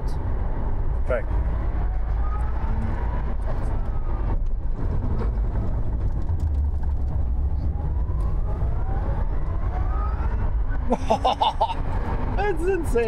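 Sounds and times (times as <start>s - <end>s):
road and tyre rumble: 0.0s - 13.0s.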